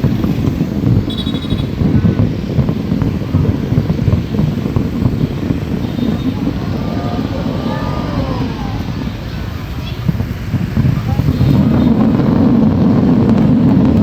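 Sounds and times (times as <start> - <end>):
faint firework whistles: 0.0 - 14.0
fireworks rumble: 0.0 - 14.0.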